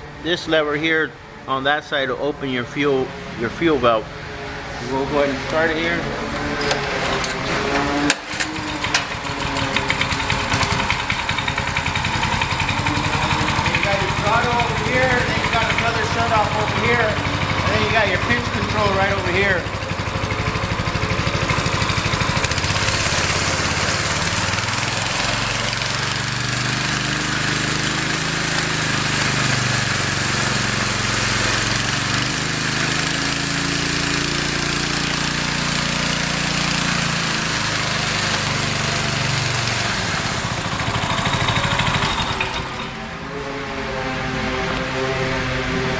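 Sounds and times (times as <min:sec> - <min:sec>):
loud mechanical noise: 0:00.0 - 0:45.9
small gasoline engine running: 0:05.5 - 0:45.9.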